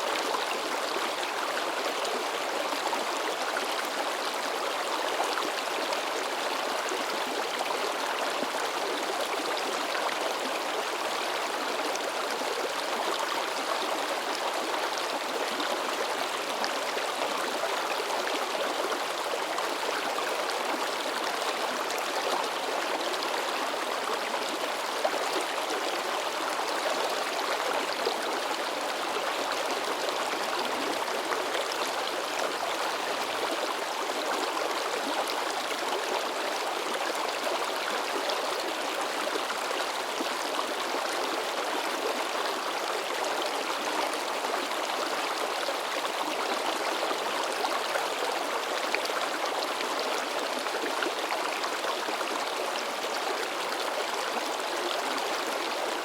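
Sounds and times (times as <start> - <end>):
stream water gurgling over rocks: 0.0 - 56.0.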